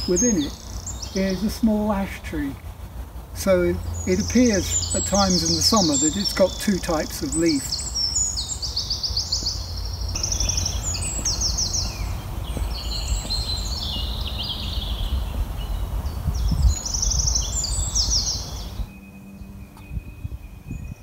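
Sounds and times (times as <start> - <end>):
songbirds trilling: 0.0 - 21.0
wind buffeting microphone: 0.0 - 21.0.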